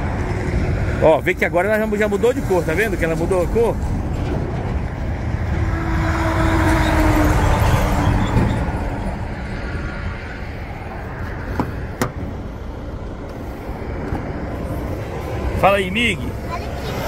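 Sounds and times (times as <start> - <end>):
vehicle passing on road: 0.0 - 17.0.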